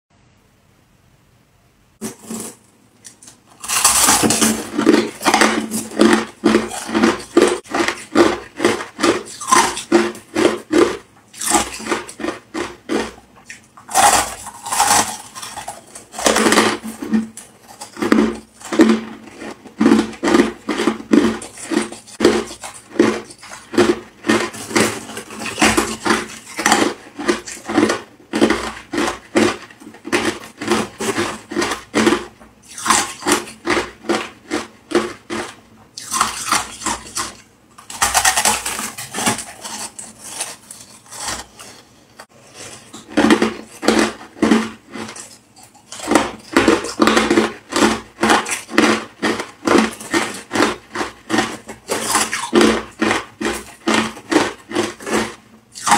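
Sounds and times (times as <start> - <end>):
chewing crushed ice: 2.0 - 55.9.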